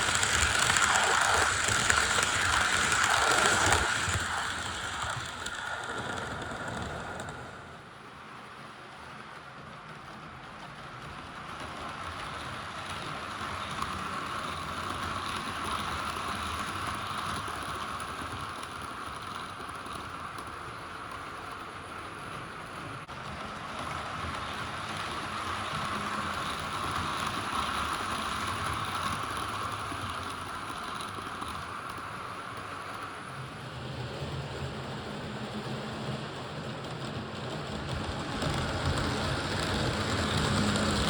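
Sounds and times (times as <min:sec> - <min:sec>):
model train motor whirring: 0:00.0 - 0:07.9, 0:11.9 - 0:34.6, 0:36.9 - 0:41.0.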